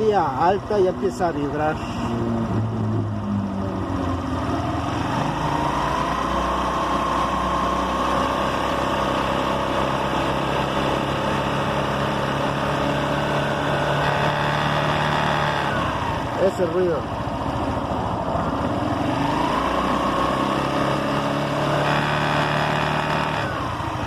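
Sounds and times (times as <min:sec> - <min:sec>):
engine rattling: 0:00.0 - 0:24.0
motorcycle engine revving: 0:00.0 - 0:24.0.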